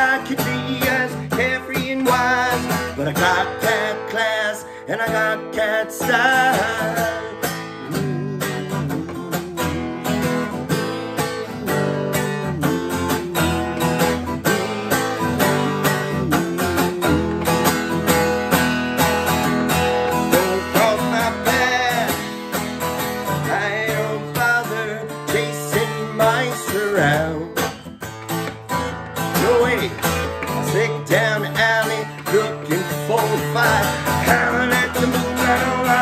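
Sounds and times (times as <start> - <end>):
guitar instrumental: 0.0 - 36.0.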